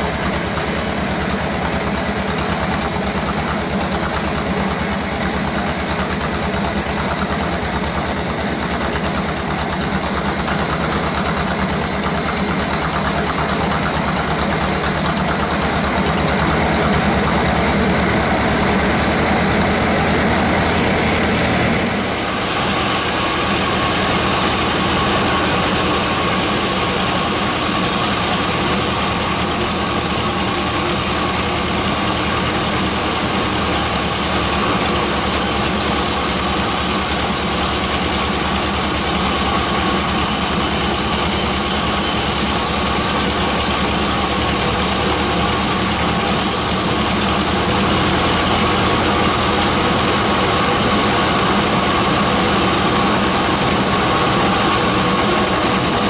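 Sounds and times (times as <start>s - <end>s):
band saw ripping through log: 0.0s - 16.5s, 21.9s - 56.0s.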